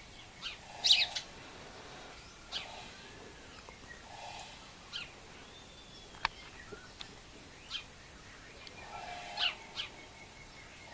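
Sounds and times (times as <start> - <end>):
sparrow chirping: 0.0 - 10.9.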